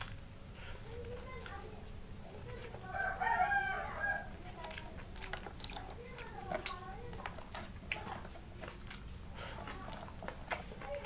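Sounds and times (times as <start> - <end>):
biting food: 0.0 - 11.0
chewing with mouth clicks: 0.0 - 11.0.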